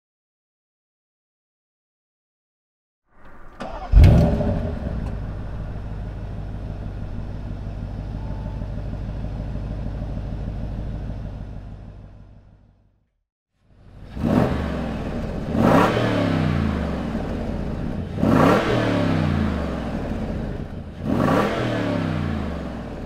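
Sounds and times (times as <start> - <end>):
car engine starting and idling: 3.2 - 13.0, 13.7 - 23.0.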